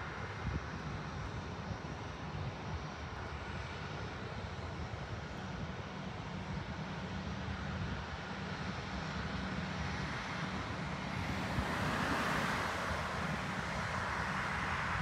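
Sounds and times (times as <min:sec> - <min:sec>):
jet engines whooshing hum: 0:00.0 - 0:15.0.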